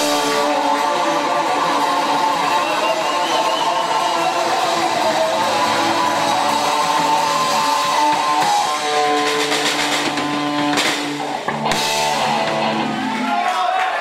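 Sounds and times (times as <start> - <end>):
drums: 0.0 - 14.0
guitar: 0.0 - 14.0.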